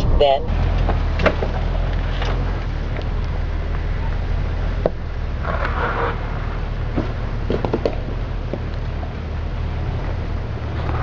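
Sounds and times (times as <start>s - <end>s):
engine rumble: 0.0s - 11.0s
gravelly scrape: 0.6s - 9.2s, 9.8s - 11.0s.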